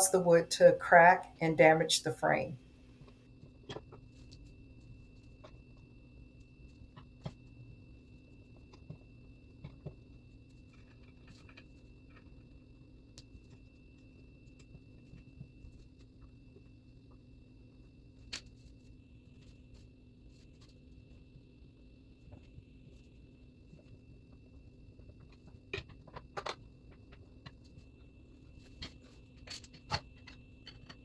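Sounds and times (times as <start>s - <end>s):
faint room hum: 0.0s - 31.0s.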